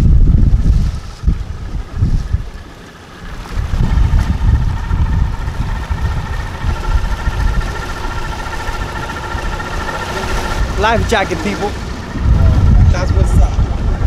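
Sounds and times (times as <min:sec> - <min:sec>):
outboard engine running: 0:00.0 - 0:14.0
wind buffeting microphone: 0:00.0 - 0:14.0.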